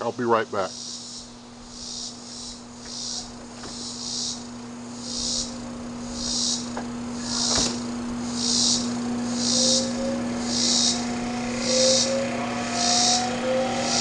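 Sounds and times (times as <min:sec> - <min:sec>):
grill humming: 0:00.0 - 0:14.0
insect hissing chirp: 0:00.1 - 0:14.0.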